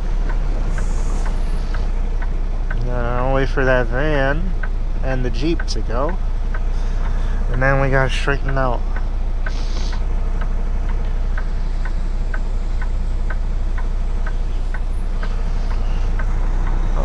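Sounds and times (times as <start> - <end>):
turn signal clicking: 0.0 - 3.3, 4.3 - 17.0
diesel engine idling: 0.0 - 17.0.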